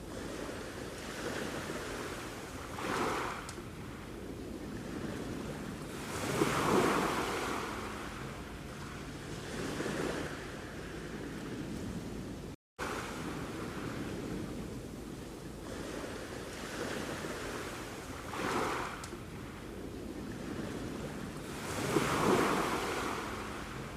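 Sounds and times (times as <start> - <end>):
sea waves washing onto shore: 0.0 - 23.9.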